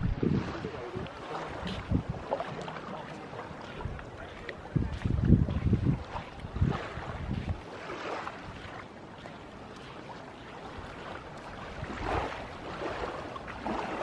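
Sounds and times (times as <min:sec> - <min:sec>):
wind buffeting microphone: 0:00.0 - 0:08.8, 0:10.6 - 0:14.0
sea waves washing ashore: 0:00.0 - 0:14.0.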